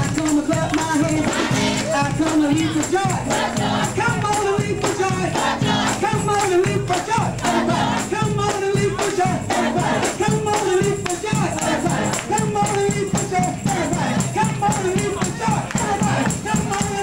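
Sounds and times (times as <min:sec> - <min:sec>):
gospel music: 0:00.0 - 0:17.0
people clapping on the beat: 0:00.0 - 0:17.0
voices singing: 0:00.0 - 0:17.0.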